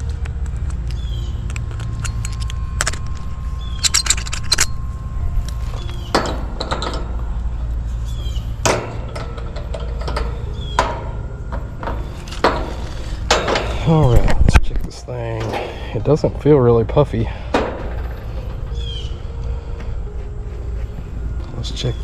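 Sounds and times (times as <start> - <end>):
steady low hum: 0.0 - 22.0
thin steady whine: 0.0 - 22.0
metal tools clinking: 0.6 - 19.7.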